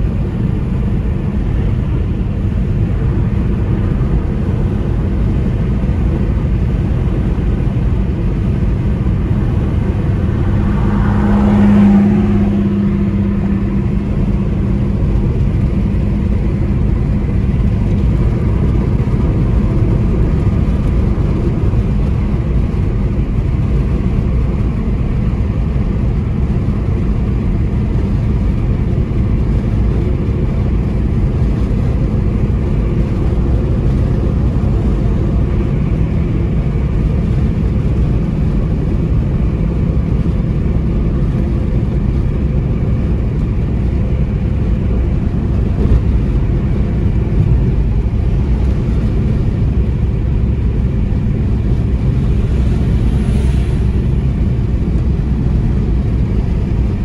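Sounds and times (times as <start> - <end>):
car road noise drone: 0.0 - 57.0.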